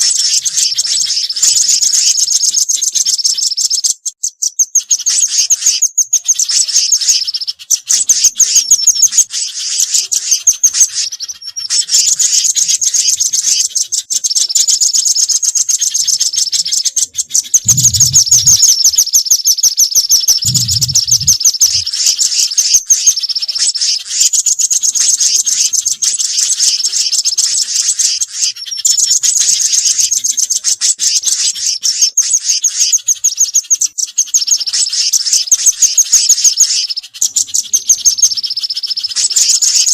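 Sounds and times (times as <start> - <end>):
songbirds chirping rapidly: 0.0 - 39.9.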